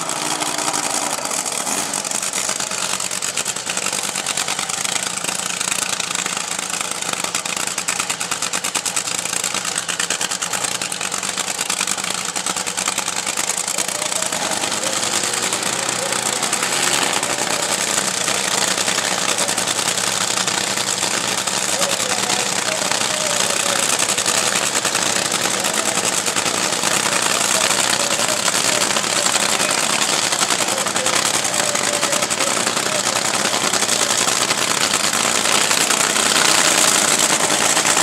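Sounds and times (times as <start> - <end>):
dragster engine idling: 0.0 - 38.0.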